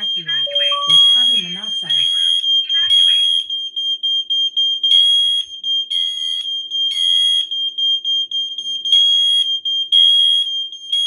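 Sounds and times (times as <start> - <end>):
smoke alarm beeps: 0.0 - 11.0
steady alarm tone: 0.0 - 11.0.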